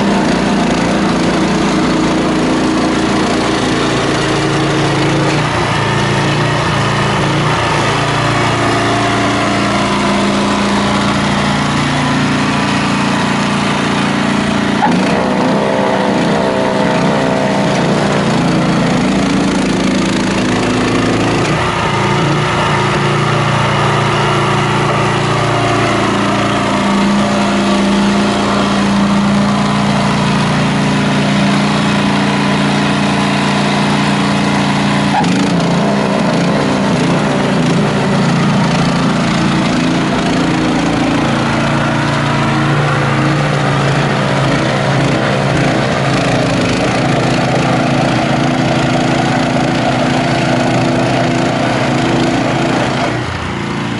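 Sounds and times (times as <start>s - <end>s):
snowblower running: 0.0s - 53.9s.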